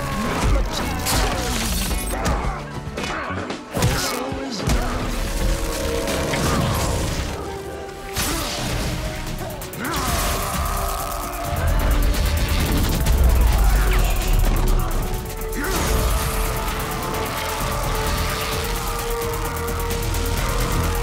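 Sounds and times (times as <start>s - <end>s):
dramatic score music: 0.0s - 21.0s.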